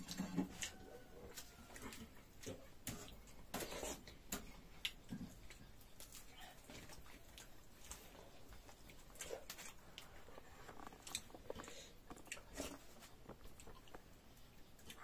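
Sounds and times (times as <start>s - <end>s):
person chewing and lip smacking: 0.0s - 15.0s.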